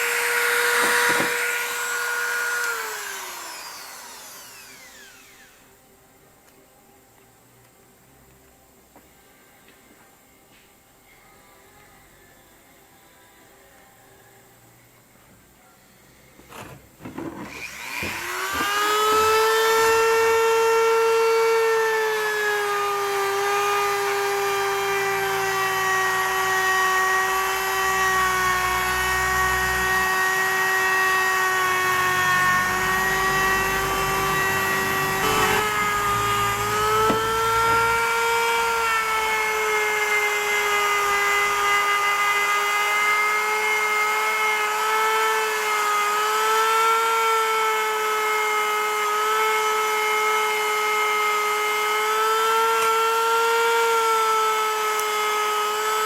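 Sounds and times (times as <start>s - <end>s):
power tool motor whining hum: 0.0s - 5.7s, 16.5s - 56.0s.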